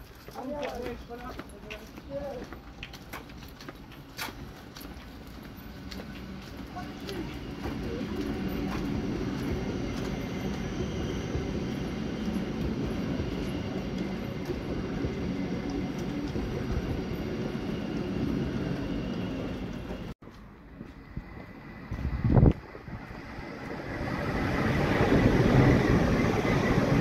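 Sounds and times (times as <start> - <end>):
train rumbling past: 0.0 - 27.0
faint wind noise: 1.8 - 27.0.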